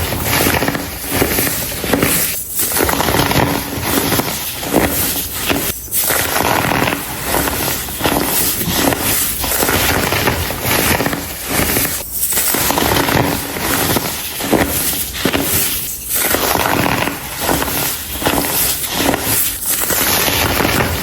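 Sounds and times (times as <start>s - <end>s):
baking soda crunching: 0.0s - 21.0s.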